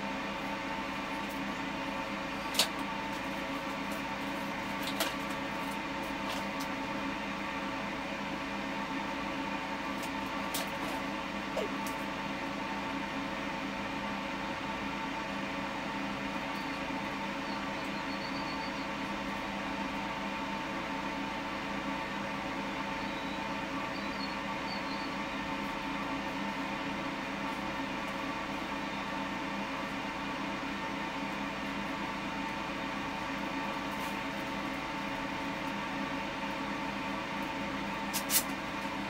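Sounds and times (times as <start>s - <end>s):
steady machine hum: 0.0s - 39.0s.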